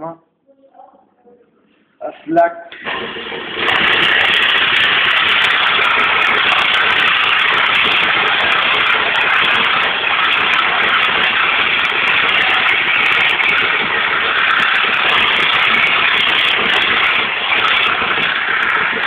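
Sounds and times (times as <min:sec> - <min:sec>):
sandpaper hissing on lathe workpiece: 0:03.6 - 0:19.0.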